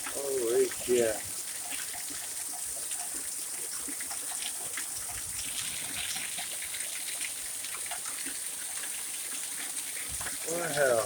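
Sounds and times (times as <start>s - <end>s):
rain falling: 0.0s - 11.0s
water drips and splashes: 0.0s - 11.0s
water trickling: 0.0s - 11.0s.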